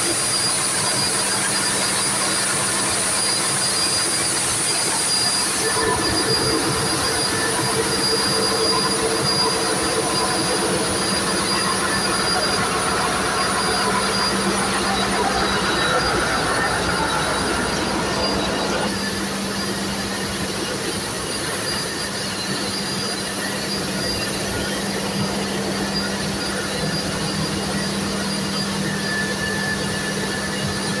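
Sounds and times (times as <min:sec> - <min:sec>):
engine room machinery noise: 0:00.0 - 0:31.0.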